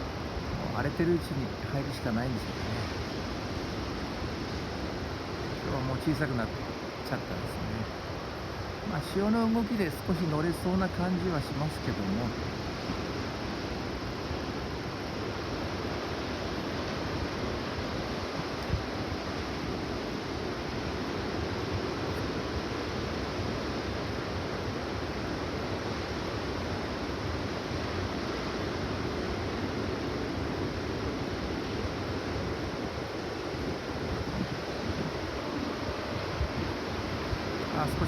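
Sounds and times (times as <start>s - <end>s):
small surf waves breaking: 0.0s - 38.0s.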